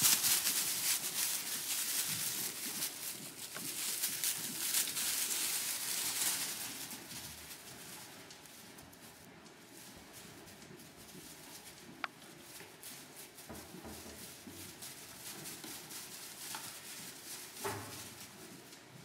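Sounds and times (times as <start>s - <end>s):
hooves pattering through straw: 0.0s - 19.0s.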